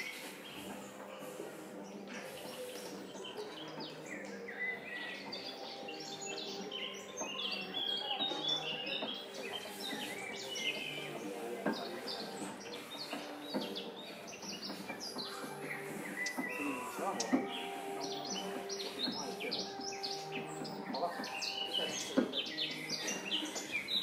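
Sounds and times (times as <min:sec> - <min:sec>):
small birds chirping and singing: 0:00.0 - 0:24.0.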